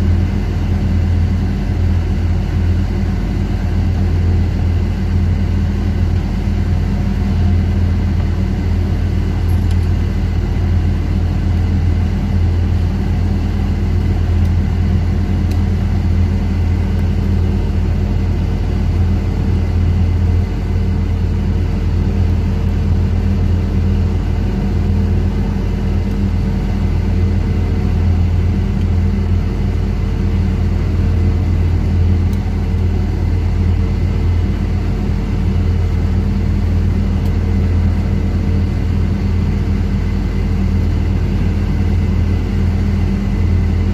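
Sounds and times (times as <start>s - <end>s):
loud machinery drone: 0.0s - 43.9s.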